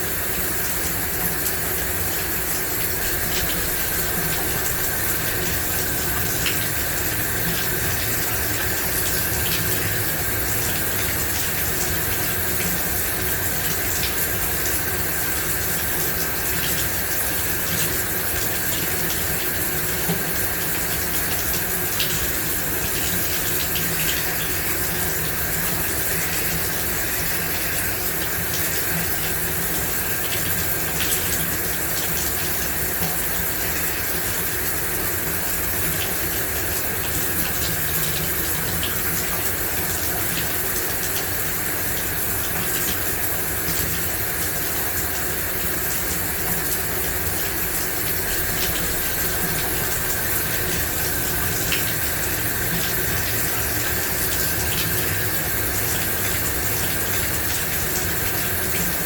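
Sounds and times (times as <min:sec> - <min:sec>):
shower water spraying: 0:00.0 - 0:59.0
water dripping: 0:00.1 - 0:59.0.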